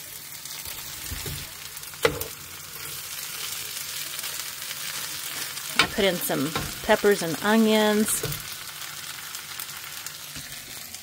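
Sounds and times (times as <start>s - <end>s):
hash browns sizzling in a pan: 0.0s - 11.0s.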